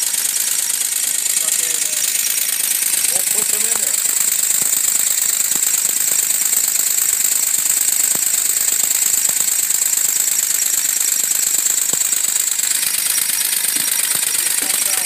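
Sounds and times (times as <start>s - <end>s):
model fire engine mechanical chatter: 0.0s - 15.0s.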